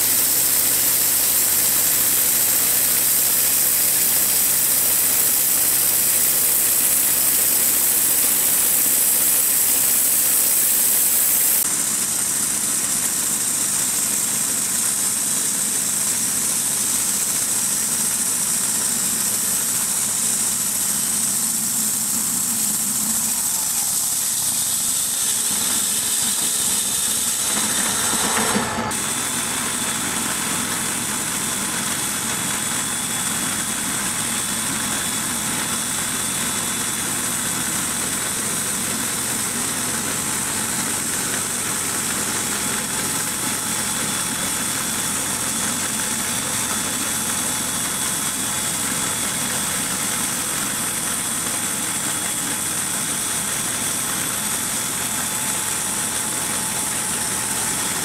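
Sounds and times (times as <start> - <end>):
bandsaw mill engine droning: 0.0 - 58.0.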